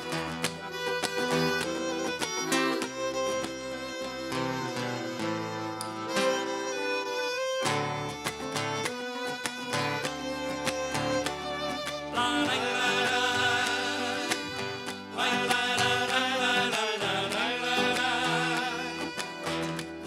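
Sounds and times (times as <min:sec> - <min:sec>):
folk band playing: 0:00.0 - 0:20.0.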